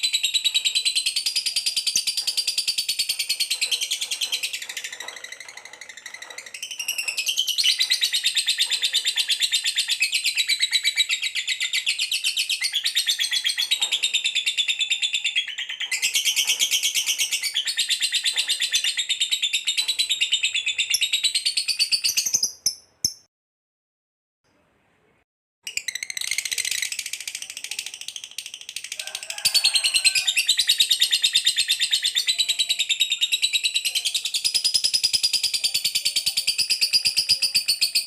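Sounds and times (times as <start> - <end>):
canary trilling song: 0.0 - 23.3, 25.6 - 38.0.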